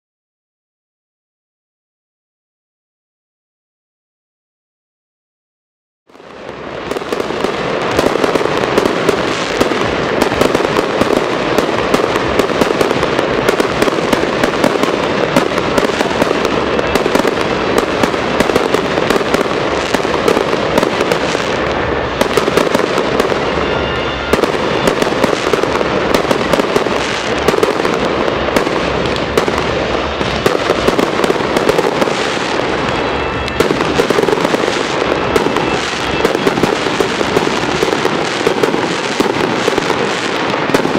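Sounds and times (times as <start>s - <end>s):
fireworks bangs and crackles: 6.1s - 40.9s.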